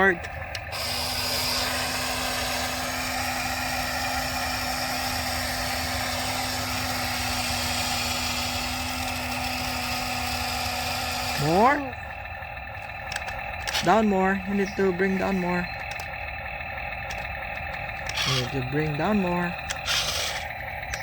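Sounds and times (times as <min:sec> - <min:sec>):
toy electric motors whining: 0:00.0 - 0:21.0.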